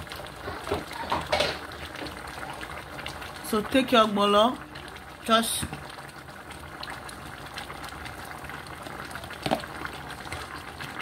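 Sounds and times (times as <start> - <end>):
pot bubbling at a boil: 0.0 - 11.0.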